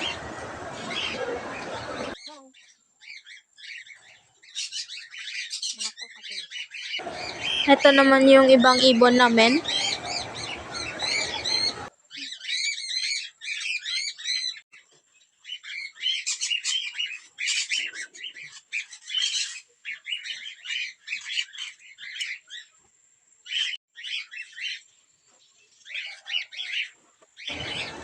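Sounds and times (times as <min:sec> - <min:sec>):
birds chirping and squawking: 0:00.0 - 0:14.6, 0:15.4 - 0:22.7, 0:23.5 - 0:25.0, 0:25.7 - 0:28.0.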